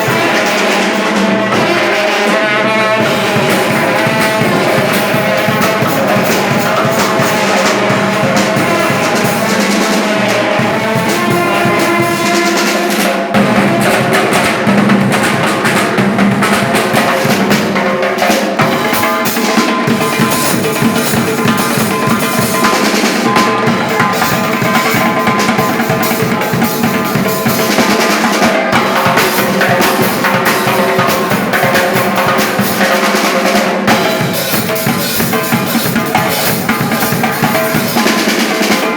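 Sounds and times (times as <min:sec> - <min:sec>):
drum kit beat: 0:00.0 - 0:38.9
loud band music: 0:00.0 - 0:38.9.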